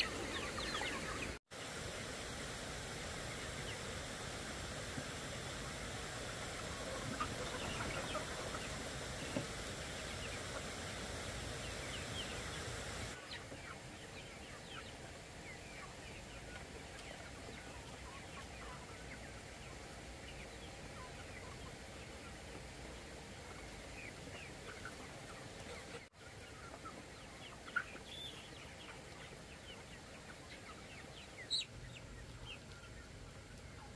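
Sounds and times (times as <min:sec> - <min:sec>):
background hiss: 0:00.0 - 0:33.9
chicks peeping and clucking: 0:00.0 - 0:33.9.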